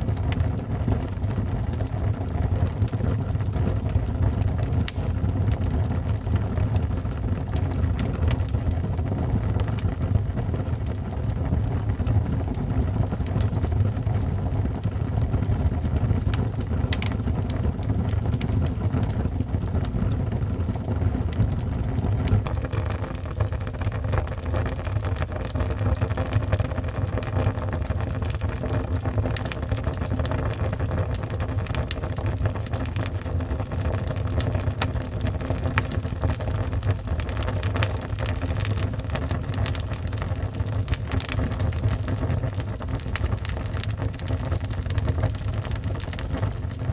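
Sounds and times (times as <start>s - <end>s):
logs crackling and popping: 0.0s - 46.9s
low rumble of flames: 0.0s - 46.9s.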